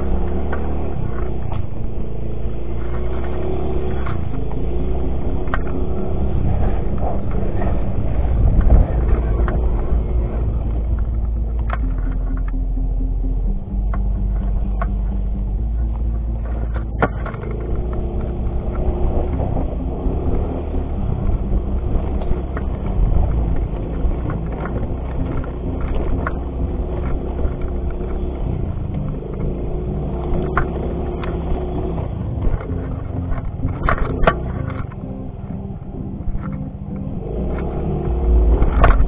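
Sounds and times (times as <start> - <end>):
scooter engine running: 0.0 - 39.0.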